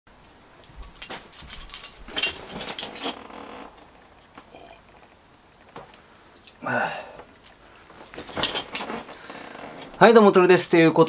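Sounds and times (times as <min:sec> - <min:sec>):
person sitting in leather chair: 0:00.6 - 0:10.4.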